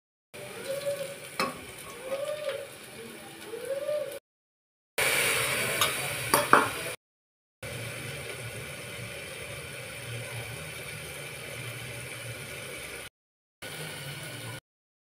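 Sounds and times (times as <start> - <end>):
sizzling in oil: 0.4 - 4.2, 5.0 - 7.0, 7.6 - 14.6.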